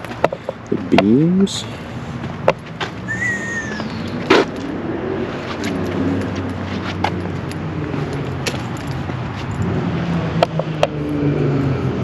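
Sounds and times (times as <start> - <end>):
car engine humming: 1.8 - 12.0.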